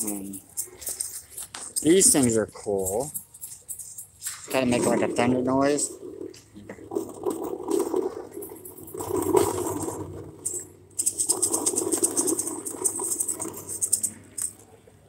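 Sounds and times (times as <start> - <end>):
shaken thunder tube rattling: 0.0 - 14.8.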